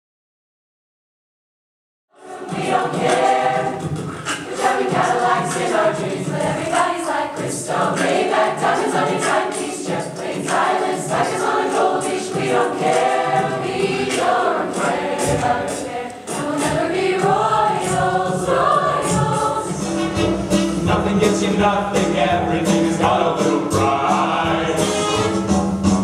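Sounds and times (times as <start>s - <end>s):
mixed choir singing: 2.1s - 26.0s.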